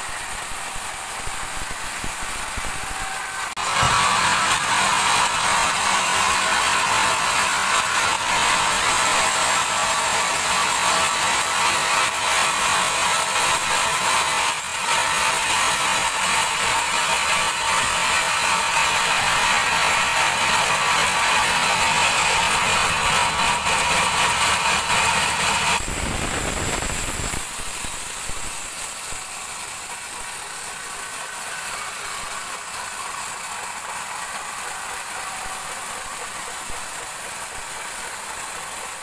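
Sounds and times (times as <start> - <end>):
band saw cutting log: 0.0 - 39.0.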